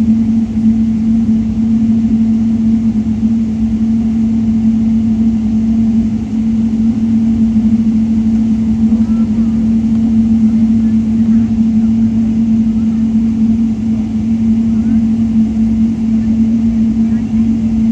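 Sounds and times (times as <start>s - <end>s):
aircraft cabin engine drone: 0.0s - 17.9s.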